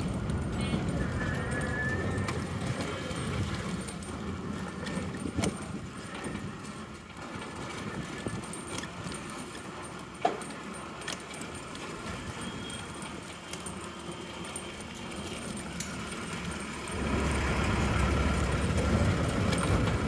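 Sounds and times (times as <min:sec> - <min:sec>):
road and traffic rumble: 0:00.0 - 0:20.0.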